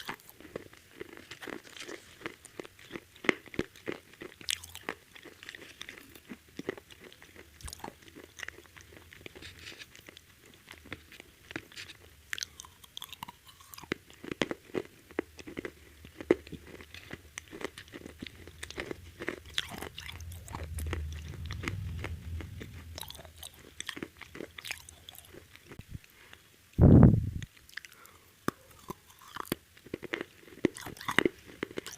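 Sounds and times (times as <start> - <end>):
crunching and chewing fried chicken: 0.0 - 22.3, 27.5 - 31.9.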